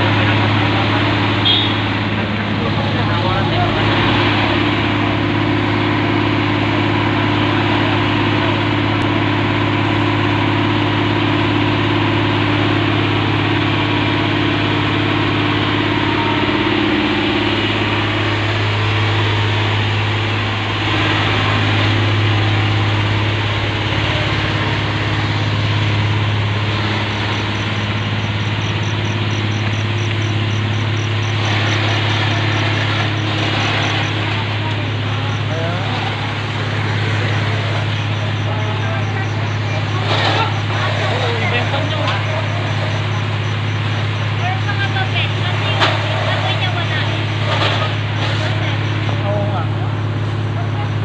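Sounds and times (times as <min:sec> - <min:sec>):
fire truck engine drone: 0:00.0 - 0:51.0.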